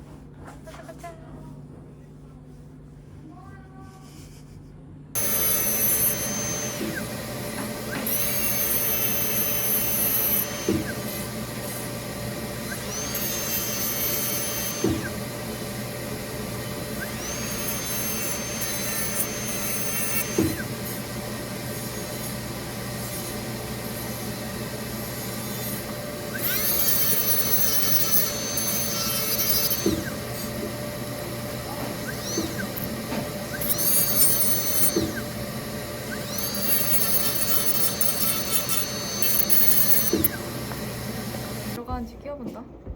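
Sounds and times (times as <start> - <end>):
steady low hum: 4.6 - 42.9
dental handpiece whining: 5.2 - 41.8.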